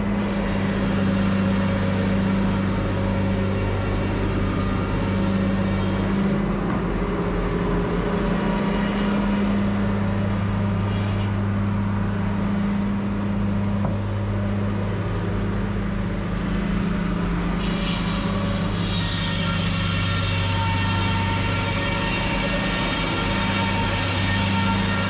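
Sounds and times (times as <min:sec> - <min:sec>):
large engine humming: 0:00.0 - 0:25.0.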